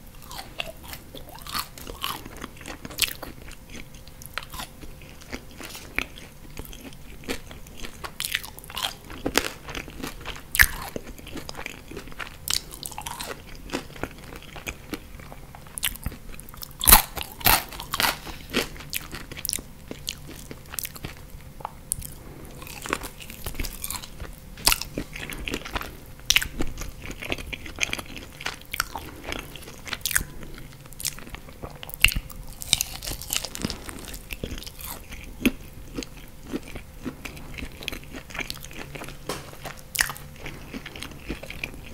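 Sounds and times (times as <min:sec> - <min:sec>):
crunchy chewing and biting: 0:00.0 - 0:41.9.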